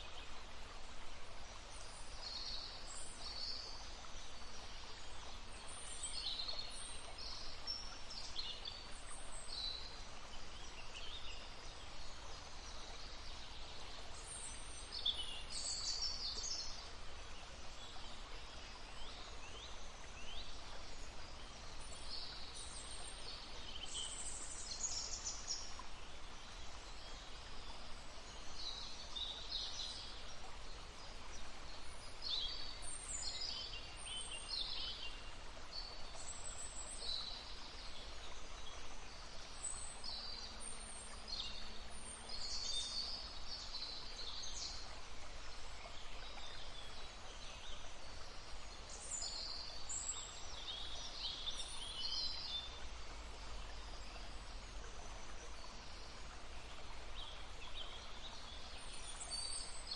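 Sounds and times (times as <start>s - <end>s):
babbling stream: 0.0s - 59.9s.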